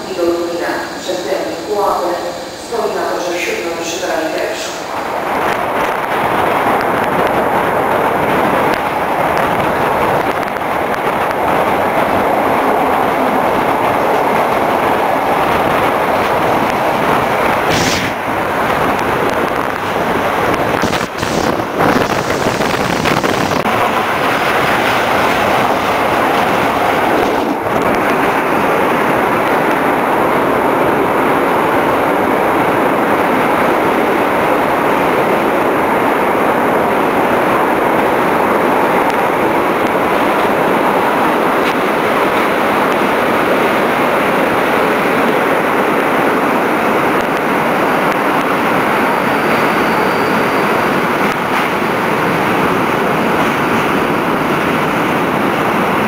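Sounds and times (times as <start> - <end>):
train passing alongside: 0.0 - 56.0
train wheels on rails: 0.0 - 56.0.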